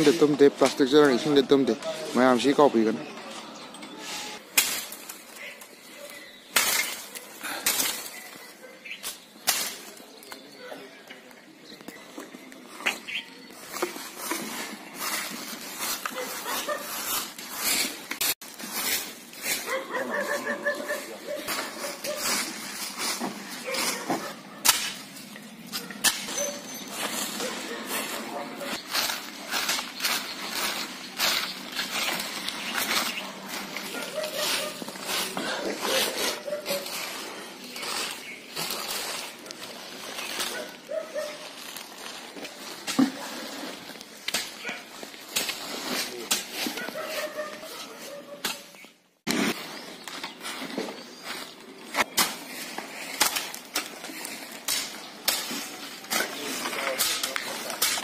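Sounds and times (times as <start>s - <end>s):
broom sweeping dirt path: 3.3s - 10.2s, 12.6s - 58.0s.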